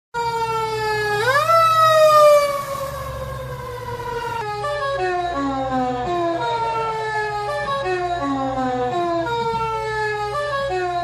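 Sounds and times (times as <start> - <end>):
fire truck siren wailing: 0.2 - 11.0.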